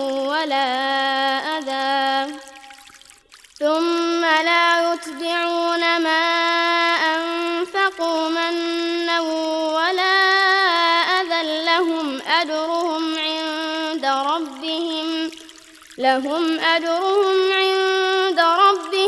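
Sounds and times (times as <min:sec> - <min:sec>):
person reciting melodically: 0:00.0 - 0:02.6, 0:03.6 - 0:19.0.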